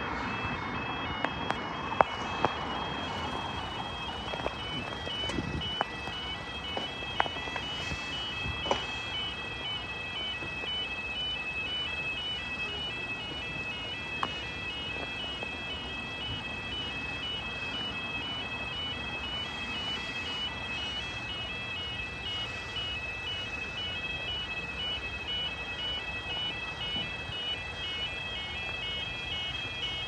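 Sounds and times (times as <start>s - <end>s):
level crossing two-tone alarm: 0.0s - 30.0s.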